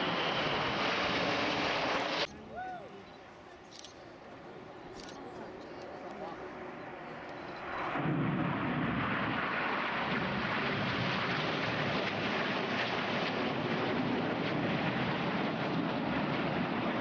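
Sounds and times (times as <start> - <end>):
jet aircraft engine roar: 0.0 - 17.0.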